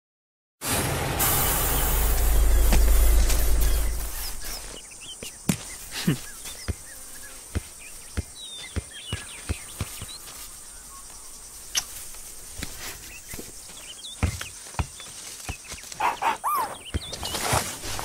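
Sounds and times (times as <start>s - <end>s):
birds chirping faintly: 1.5s - 18.0s.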